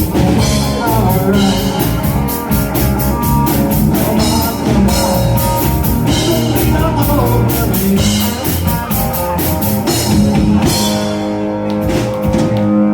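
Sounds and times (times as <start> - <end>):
drum kit: 0.0 - 12.9
guitar: 0.0 - 12.9.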